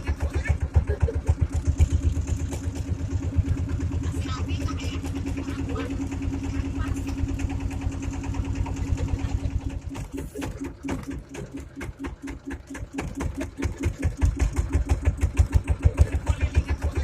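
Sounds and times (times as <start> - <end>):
motorboat engine chugging: 0.0 - 17.0.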